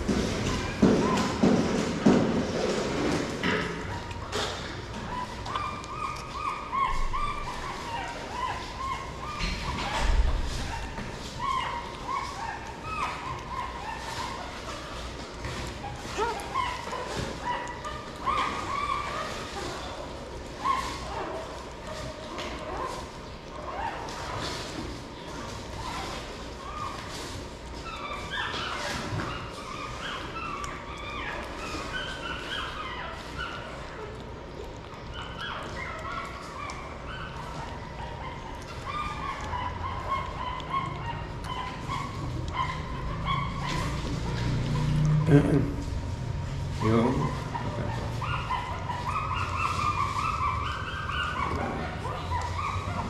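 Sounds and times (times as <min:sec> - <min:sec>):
puppies whimpering and yipping: 0:00.0 - 0:53.0.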